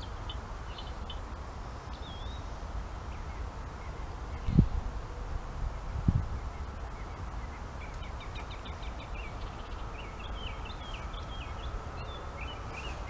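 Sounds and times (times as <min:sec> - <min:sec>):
songbird chirping: 0:00.0 - 0:04.9, 0:06.0 - 0:13.0.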